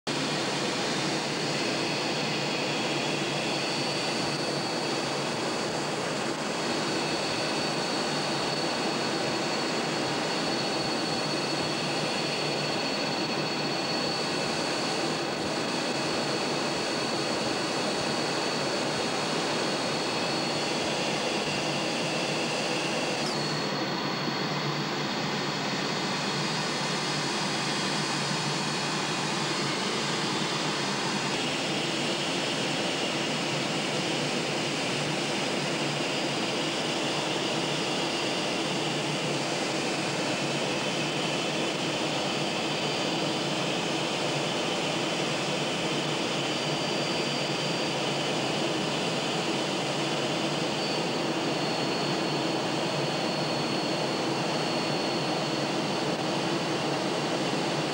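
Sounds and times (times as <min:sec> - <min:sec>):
thin high whine: 0:00.1 - 0:57.9.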